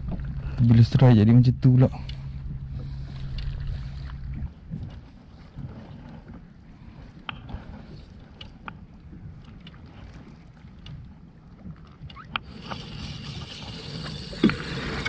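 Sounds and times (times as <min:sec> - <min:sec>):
water moving around kayak: 0:00.0 - 0:15.0.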